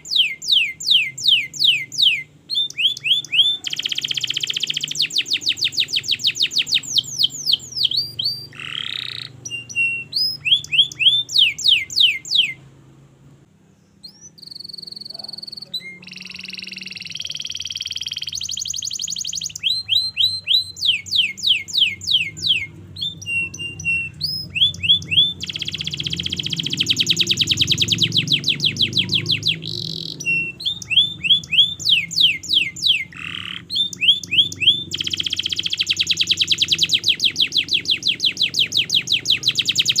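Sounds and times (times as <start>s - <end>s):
canary singing: 0.0s - 13.0s, 13.7s - 40.0s.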